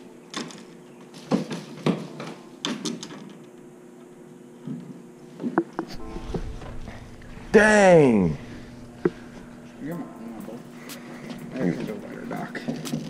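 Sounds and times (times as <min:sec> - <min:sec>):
faint steady hum: 0:01.8 - 0:13.0.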